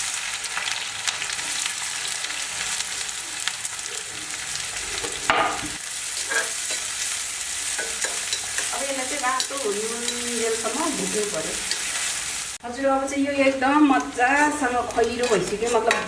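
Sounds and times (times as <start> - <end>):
onions sizzling in a pan: 0.0 - 16.0
spatula stirring: 1.2 - 12.6, 13.9 - 16.0.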